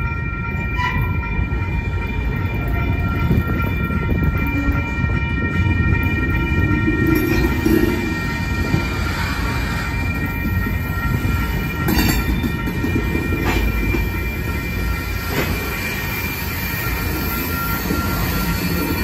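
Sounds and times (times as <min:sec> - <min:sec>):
steady high tones: 0:00.0 - 0:19.0
train cars clanking: 0:00.0 - 0:19.0
train wheels rumbling on rails: 0:00.0 - 0:19.0.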